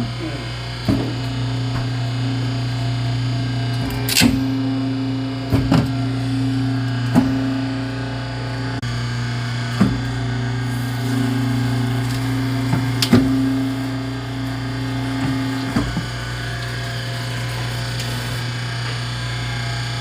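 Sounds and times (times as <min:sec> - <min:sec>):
machine motor hum: 0:00.0 - 0:20.0.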